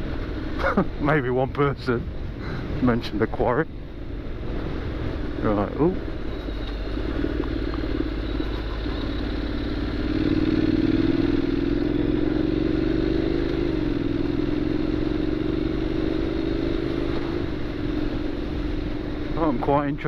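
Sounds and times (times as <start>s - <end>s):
motorcycle engine riding: 0.0s - 20.0s.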